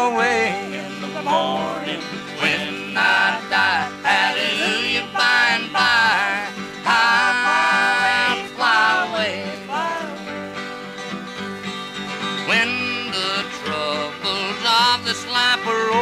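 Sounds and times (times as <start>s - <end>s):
country music with guitar: 0.0s - 16.0s.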